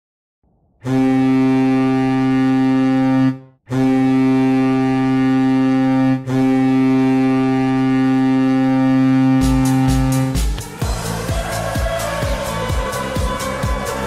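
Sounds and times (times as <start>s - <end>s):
goal horn blasts: 0.8s - 14.0s.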